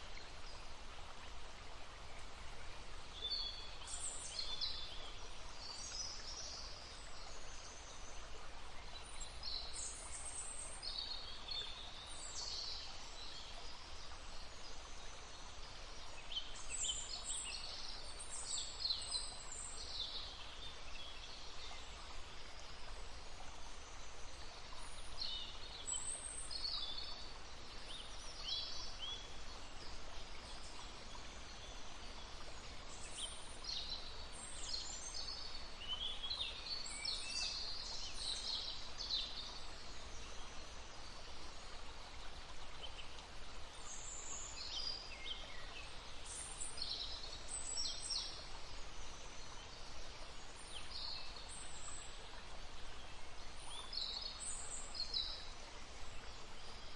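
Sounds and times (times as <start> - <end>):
babbling stream: 0.0 - 56.9.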